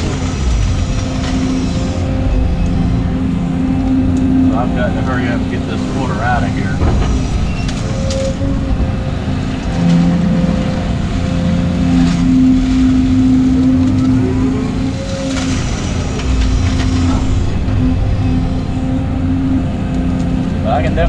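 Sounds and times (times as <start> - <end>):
excavator engine and hydraulics: 0.0 - 21.0.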